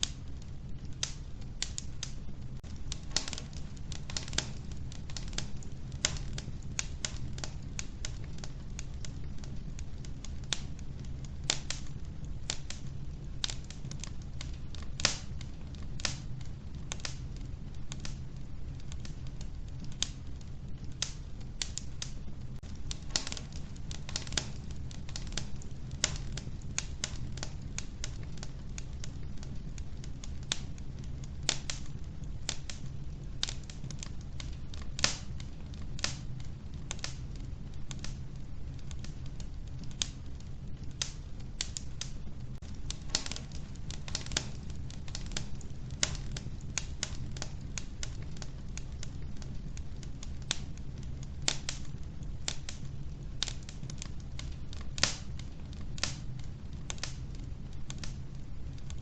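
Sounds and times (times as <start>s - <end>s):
wood fire burning in a stove: 0.0s - 59.0s.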